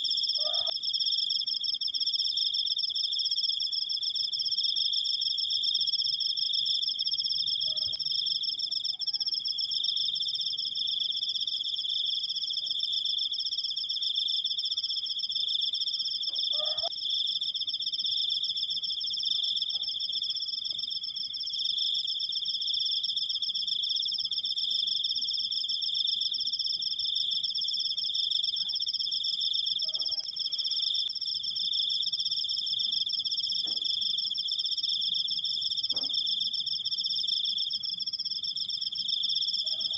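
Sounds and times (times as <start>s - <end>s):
cricket trilling: 0.0s - 39.9s.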